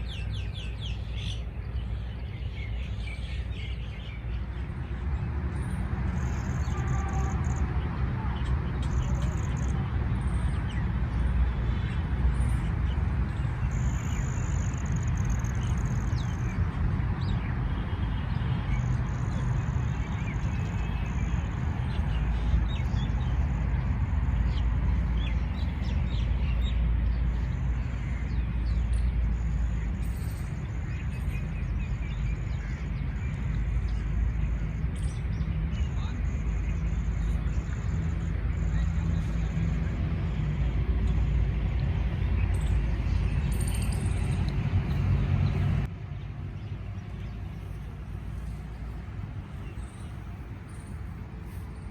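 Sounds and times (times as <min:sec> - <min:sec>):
constant low rumble: 0:00.0 - 0:51.9.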